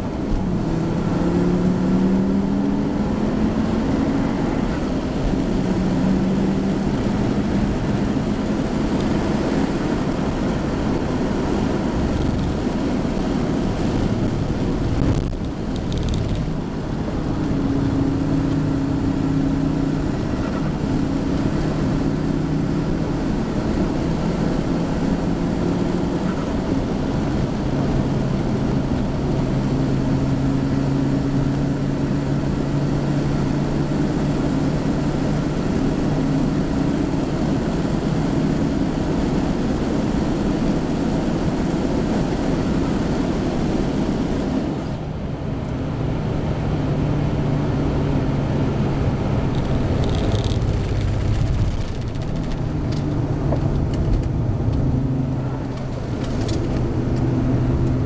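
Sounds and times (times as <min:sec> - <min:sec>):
turbocharged car engine under load: 0:00.0 - 0:58.0.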